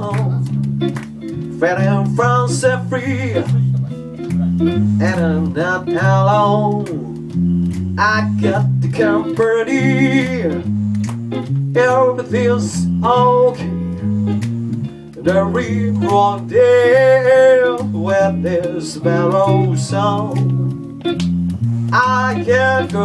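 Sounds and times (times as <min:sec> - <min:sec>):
guitar accompaniment: 0:00.0 - 0:23.0
lead melody with bending notes: 0:00.0 - 0:23.0
walking electric bass: 0:00.0 - 0:23.0.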